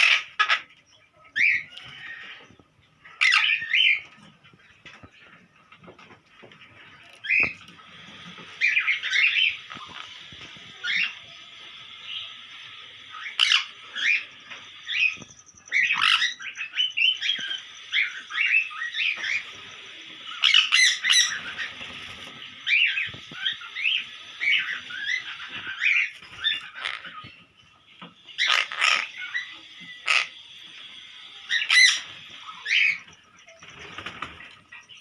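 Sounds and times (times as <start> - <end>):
parrots squawking and chattering: 0.0 - 35.0.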